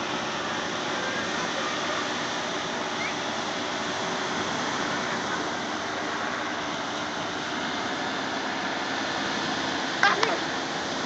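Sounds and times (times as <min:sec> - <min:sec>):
surf breaking on sandy beach: 0:00.0 - 0:11.0.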